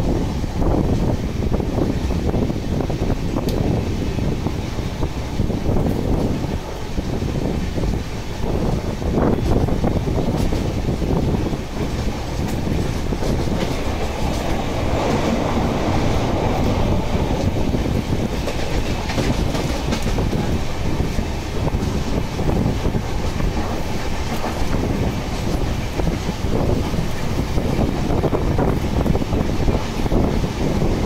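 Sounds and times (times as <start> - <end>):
train wheels rumbling on rails: 0.0 - 31.0
clickety-clack over track joints: 0.6 - 31.0.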